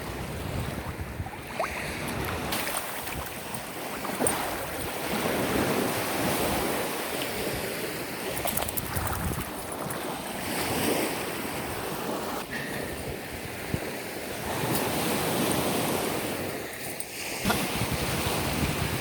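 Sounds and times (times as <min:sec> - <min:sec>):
wind on microphone: 0:00.0 - 0:16.7, 0:17.4 - 0:19.0
ocean surf washing on beach: 0:00.0 - 0:19.0.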